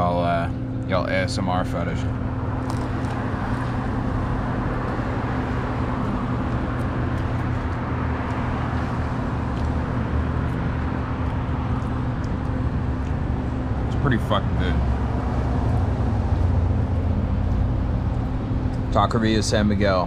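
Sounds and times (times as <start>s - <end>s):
motor vehicle noise: 0.0s - 20.0s.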